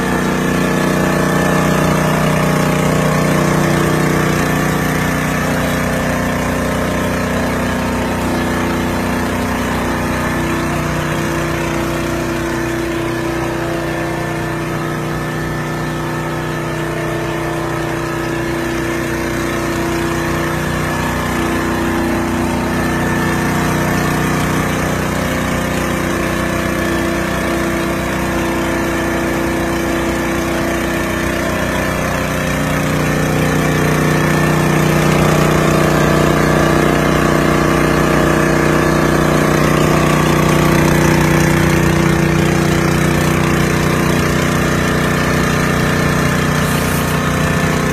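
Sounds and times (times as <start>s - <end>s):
high-pressure sprayer engine running: 0.0s - 47.9s.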